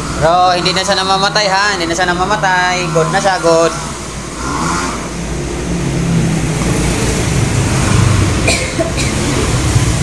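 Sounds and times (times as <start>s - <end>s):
compressor hum: 0.0s - 10.0s
fan and airflow rushing: 0.0s - 10.0s.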